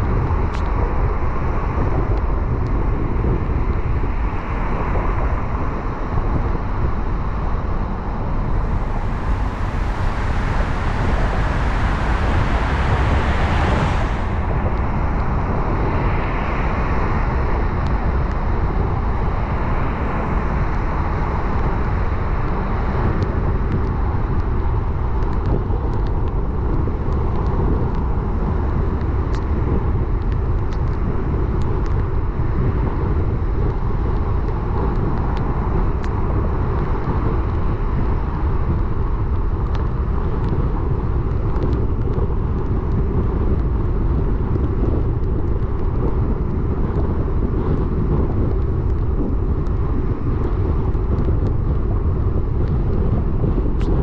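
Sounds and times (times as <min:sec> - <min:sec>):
car driving on wet road: 0:03.6 - 0:54.0.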